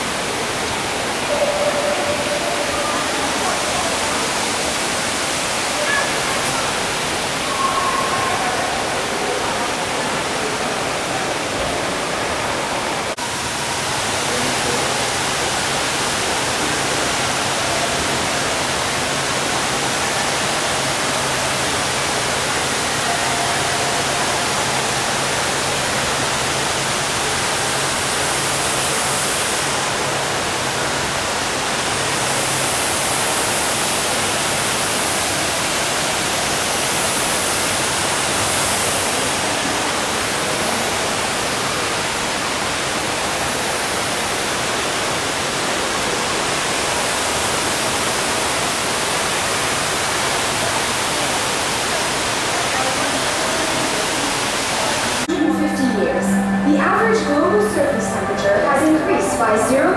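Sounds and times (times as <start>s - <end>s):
indoor waterfall rushing: 0.0s - 59.9s.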